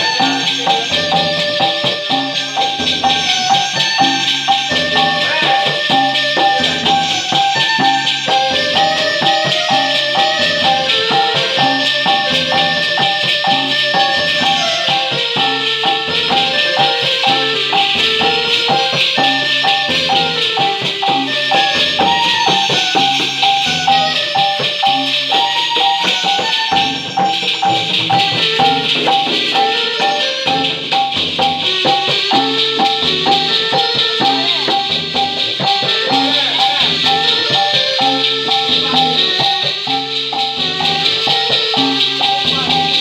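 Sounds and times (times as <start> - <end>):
shaker: 0.0 - 43.0
upbeat keyboard dance music: 0.0 - 43.0.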